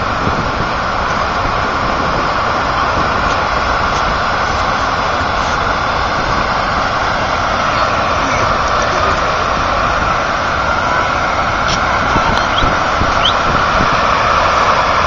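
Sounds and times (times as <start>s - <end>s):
floodwater rushing over spillway: 0.0s - 15.0s.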